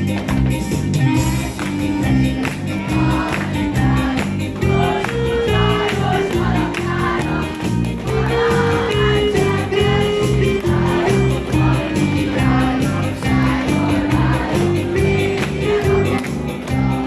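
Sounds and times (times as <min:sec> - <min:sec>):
band playing folk dance music: 0:00.0 - 0:17.0.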